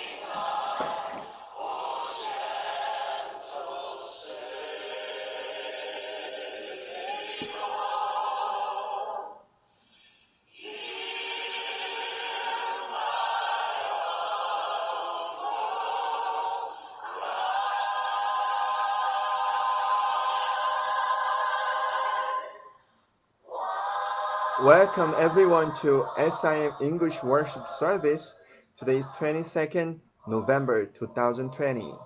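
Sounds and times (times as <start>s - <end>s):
choir singing worship song: 0.0s - 22.8s, 23.4s - 32.0s.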